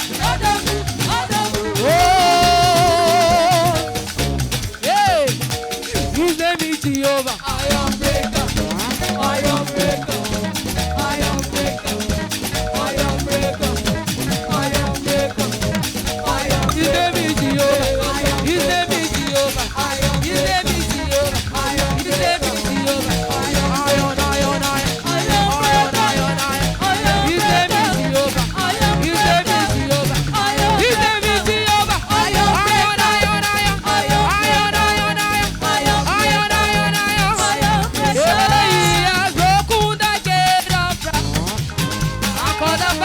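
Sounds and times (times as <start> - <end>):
choir singing: 0.0 - 3.9, 8.2 - 39.1
church band playing praise music: 0.0 - 43.0.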